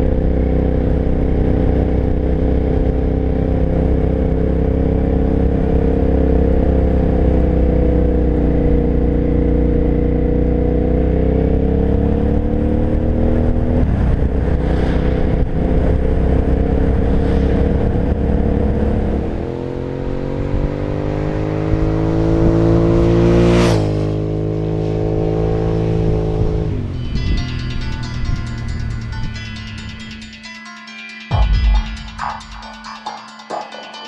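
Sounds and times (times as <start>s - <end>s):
motorcycle passing by: 0.0s - 29.9s
motorcycle engine accelerating: 0.0s - 30.3s.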